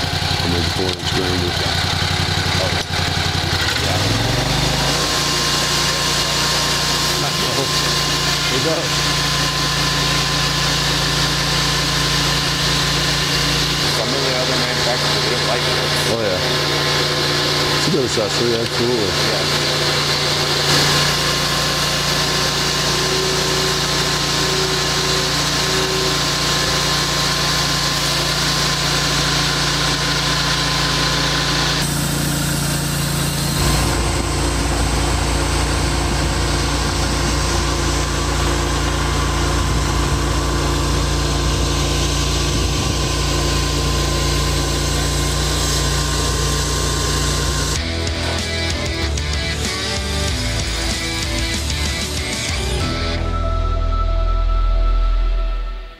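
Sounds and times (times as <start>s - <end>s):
band saw blade cutting log: 0.0s - 52.9s
sawmill engine running: 0.0s - 55.9s.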